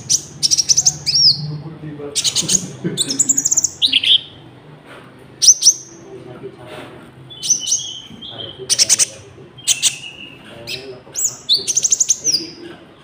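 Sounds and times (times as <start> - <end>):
bird singing high chirps and trills: 0.0 - 4.5, 5.4 - 6.2, 7.3 - 12.7.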